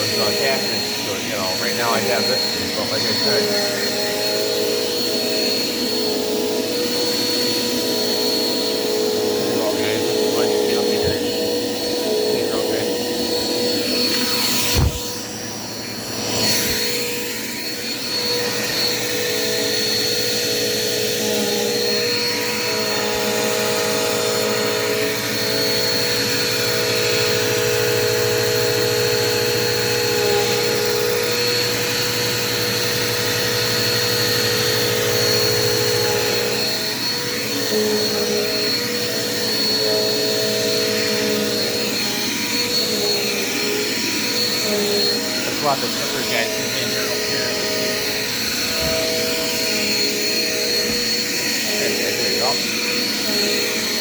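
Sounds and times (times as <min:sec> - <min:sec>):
vacuum cleaner motor whine: 0:00.0 - 0:54.0.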